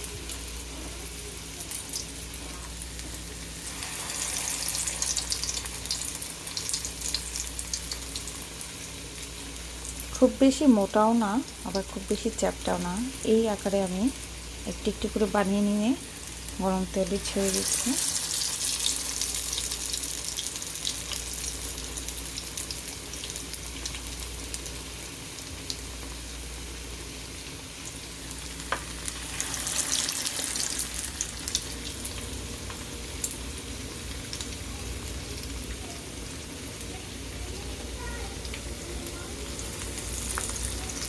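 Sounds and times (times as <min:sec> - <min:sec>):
fritters sizzling in hot oil: 0:00.0 - 0:41.0.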